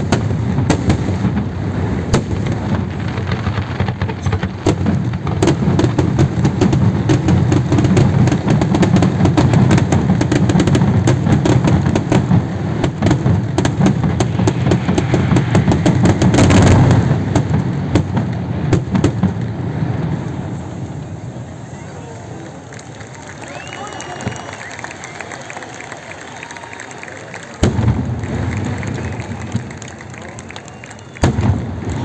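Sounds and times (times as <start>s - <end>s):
fireworks bangs and crackles: 0.0s - 32.0s
fireworks rumble: 0.0s - 32.0s.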